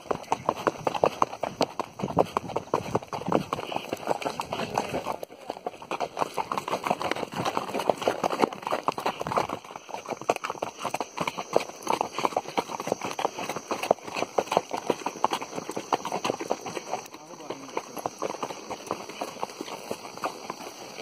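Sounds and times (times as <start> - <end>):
horse hooves on hard ground: 0.0 - 21.0.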